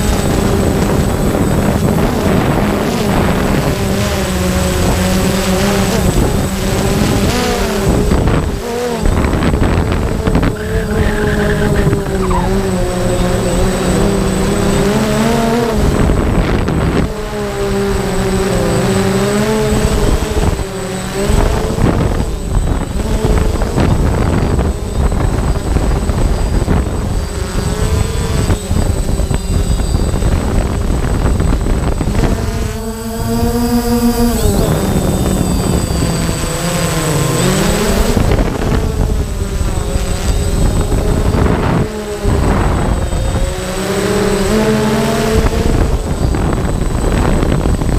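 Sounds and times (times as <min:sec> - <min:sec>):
drone propellers whining: 0:00.0 - 0:47.9
wind buffeting microphone: 0:00.0 - 0:47.9.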